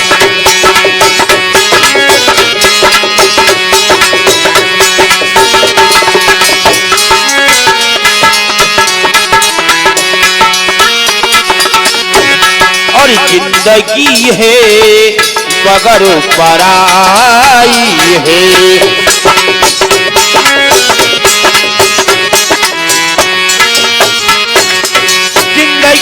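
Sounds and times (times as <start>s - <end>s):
fast percussion beat: 0.0s - 26.0s
instrumental melody: 0.0s - 26.0s.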